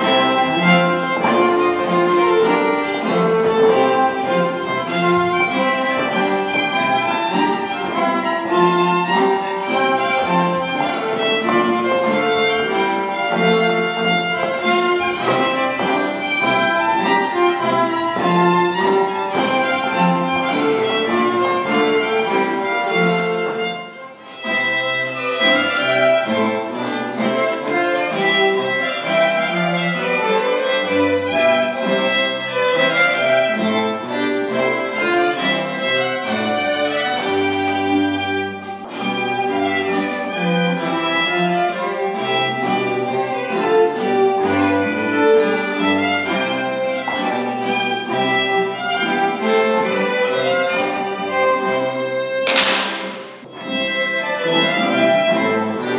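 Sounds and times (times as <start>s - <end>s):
violin melody: 0.0s - 55.9s.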